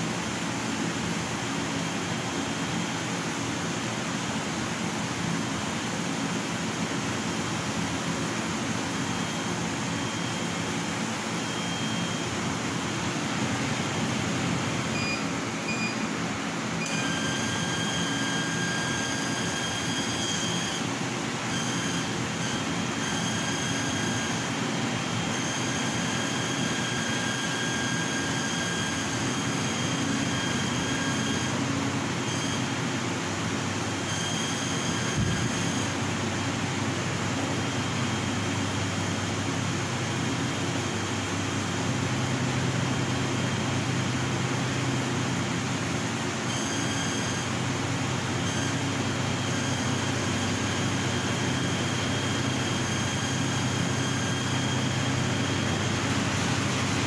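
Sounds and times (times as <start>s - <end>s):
laser cutter drone: 6.0s - 16.1s, 16.8s - 57.0s.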